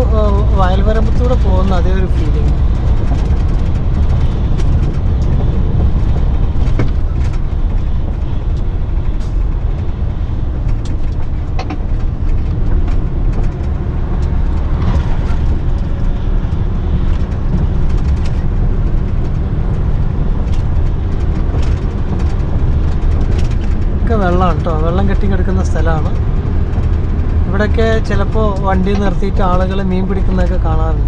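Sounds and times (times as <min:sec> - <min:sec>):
cab rattles and knocks: 0:00.0 - 0:31.0
truck engine and tyres rumbling: 0:00.0 - 0:31.0.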